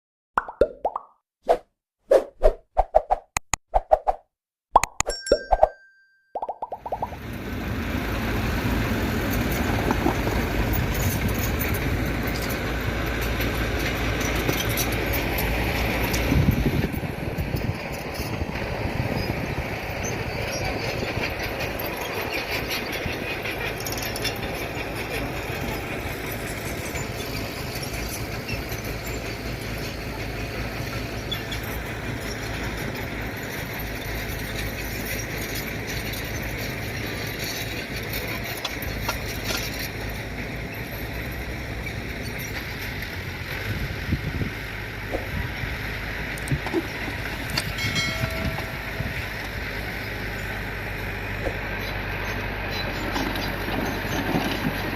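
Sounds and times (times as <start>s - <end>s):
truck engine running: 7.0s - 54.9s.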